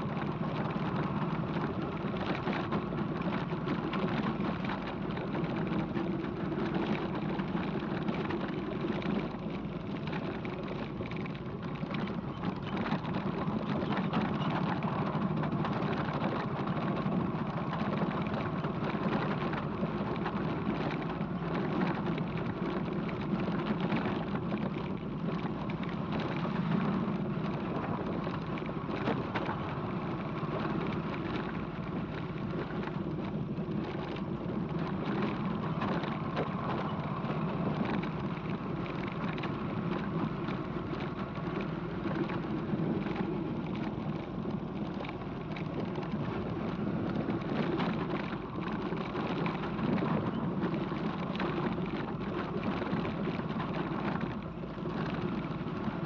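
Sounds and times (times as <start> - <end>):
road noise: 0.0 - 56.0
wind noise: 0.0 - 56.0.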